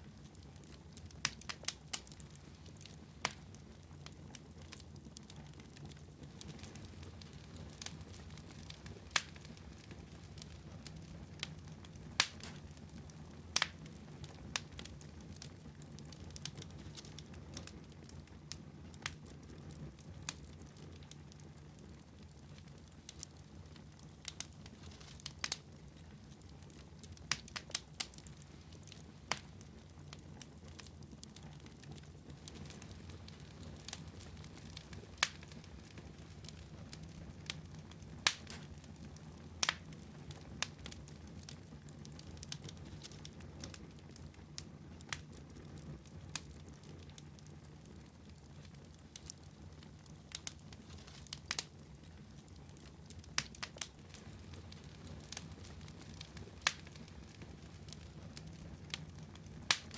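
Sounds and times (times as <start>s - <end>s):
low fire rumble: 0.0s - 59.9s
wood fire crackling and popping: 0.0s - 59.9s.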